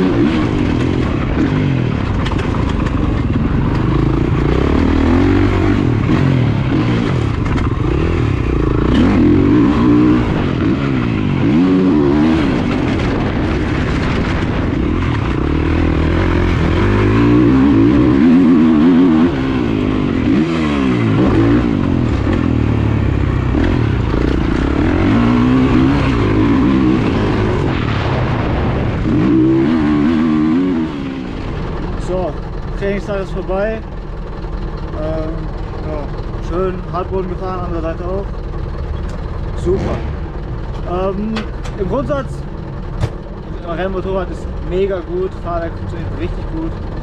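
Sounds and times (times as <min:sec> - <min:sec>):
motorbike engine revving: 0:00.0 - 0:47.0.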